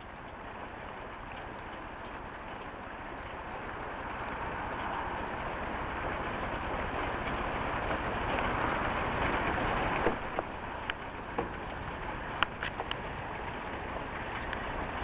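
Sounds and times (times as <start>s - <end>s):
heavy rain falling: 0.0s - 15.0s
hiss of wet traffic: 0.0s - 15.0s
raindrops ticking close by: 0.0s - 15.0s.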